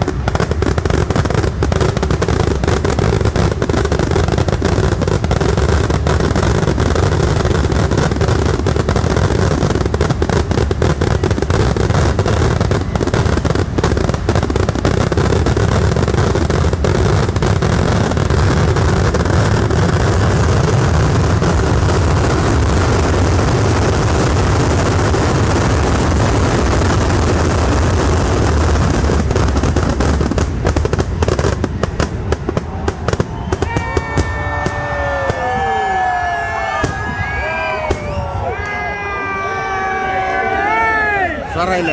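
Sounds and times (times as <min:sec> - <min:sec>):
fireworks barrage: 0:00.0 - 0:41.9.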